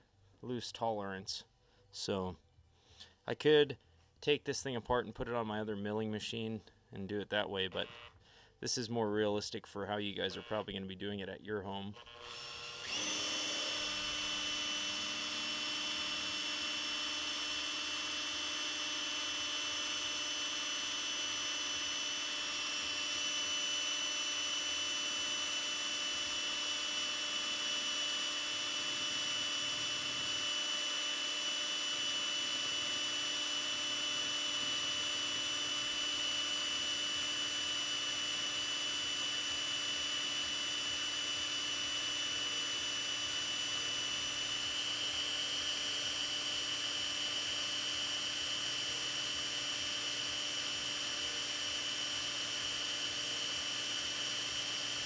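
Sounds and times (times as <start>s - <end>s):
cordless drill drilling metal: 7.3s - 8.2s, 10.0s - 10.9s, 11.7s - 55.0s.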